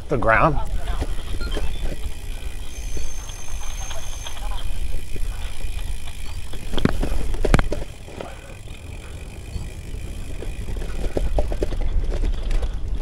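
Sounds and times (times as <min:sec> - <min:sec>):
bike frame rattling: 0:00.0 - 0:13.0
bike tyres on dirt trail: 0:00.0 - 0:13.0.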